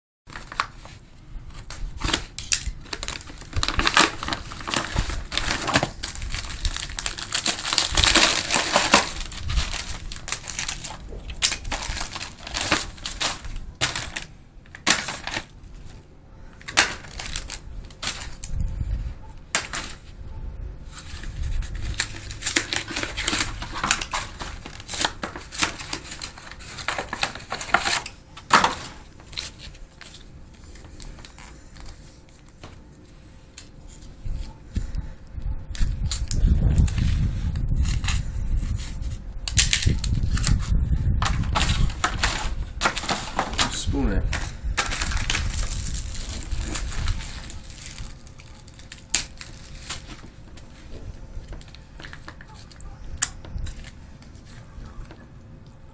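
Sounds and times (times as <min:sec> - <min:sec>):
plastic packaging crinkling: 0:00.3 - 0:20.2, 0:20.9 - 0:35.0, 0:35.7 - 0:55.9.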